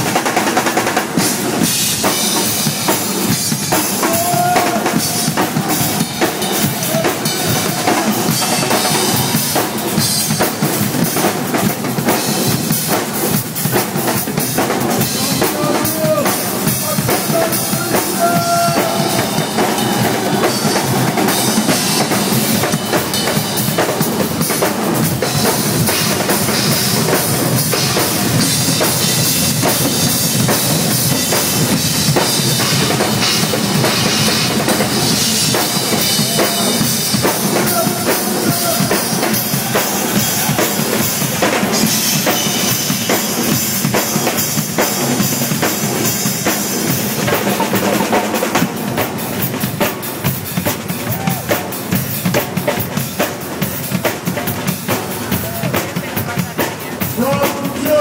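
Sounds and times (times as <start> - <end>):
drum kit playing a busy beat: 0.0 - 58.0.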